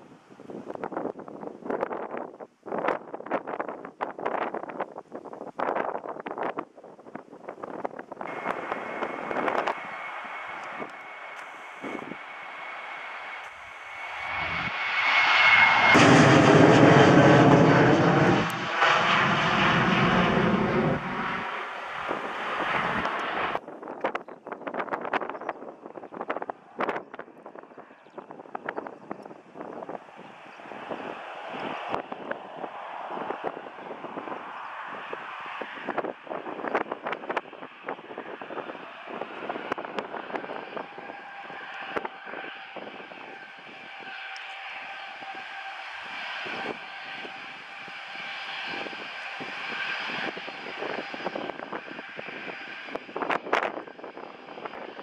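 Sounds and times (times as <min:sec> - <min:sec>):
wind on microphone: 0:00.0 - 0:44.4, 0:45.0 - 0:55.0
jet engine roar with high whine: 0:00.0 - 0:55.0.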